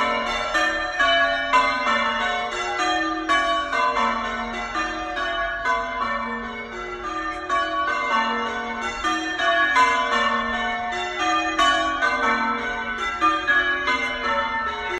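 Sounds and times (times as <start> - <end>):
church bells change ringing: 0.0 - 14.9.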